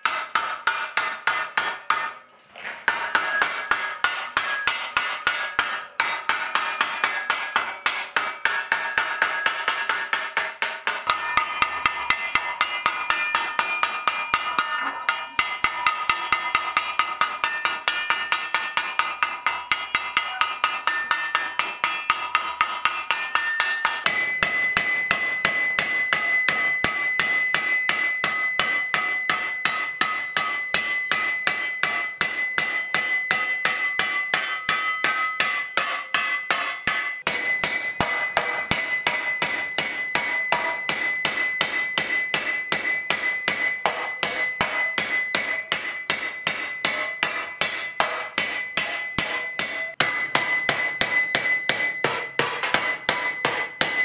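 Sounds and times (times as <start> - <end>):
hammer striking steel plate: 0.0 - 54.0.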